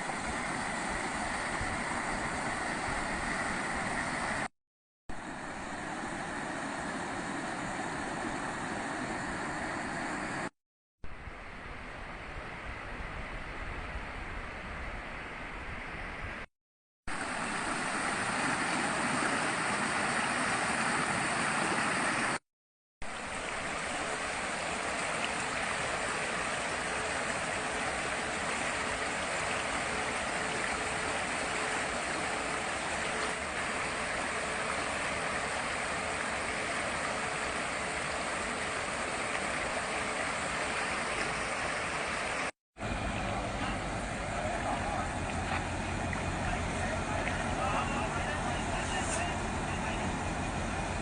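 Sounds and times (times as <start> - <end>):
fast-flowing water rushing: 0.0 - 4.5, 5.1 - 10.5, 17.1 - 22.4, 23.0 - 51.0.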